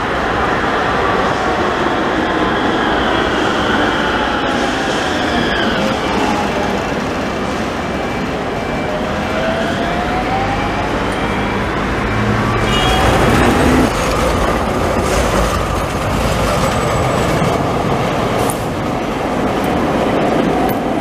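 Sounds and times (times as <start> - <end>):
tram motor whine: 0.0 - 21.0
tram wheel and track rumble: 0.0 - 21.0.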